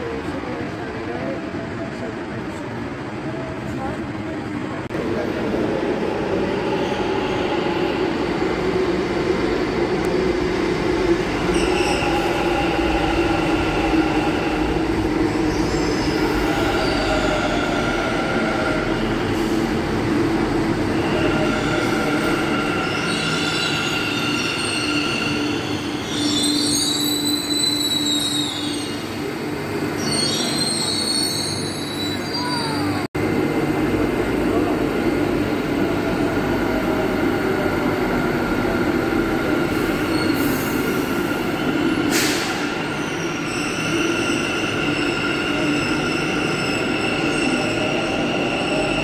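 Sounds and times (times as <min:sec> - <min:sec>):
train rumbling on track: 0:00.0 - 0:49.0.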